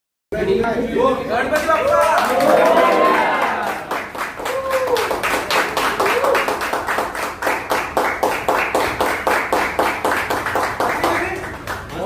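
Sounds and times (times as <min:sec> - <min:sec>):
group clapping in rhythm: 0:01.5 - 0:12.0.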